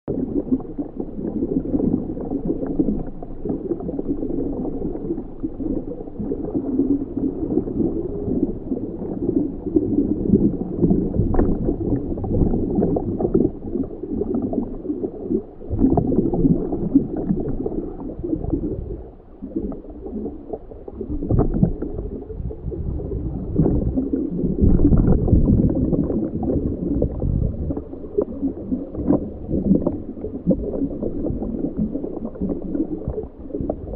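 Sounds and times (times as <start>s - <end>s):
muffled underwater gurgling: 0.1s - 33.9s.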